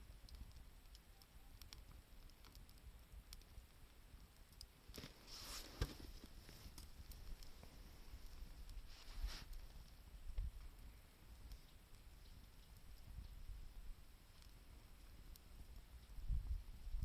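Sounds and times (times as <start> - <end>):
faint campfire crackling: 0.0 - 17.0.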